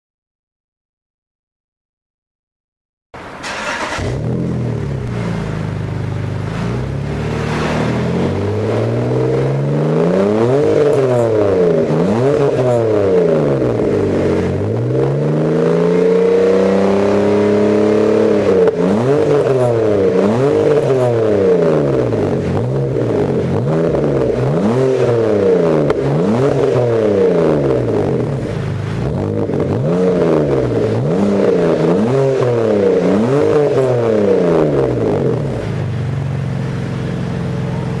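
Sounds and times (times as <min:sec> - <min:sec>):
car engine idling: 0:03.2 - 0:38.0
car engine revving: 0:03.2 - 0:38.0.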